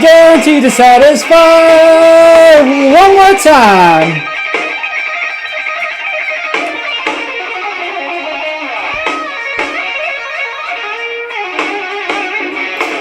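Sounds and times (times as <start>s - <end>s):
electric guitar lead lines: 0.0s - 13.0s
instrumental rock music: 0.0s - 13.0s.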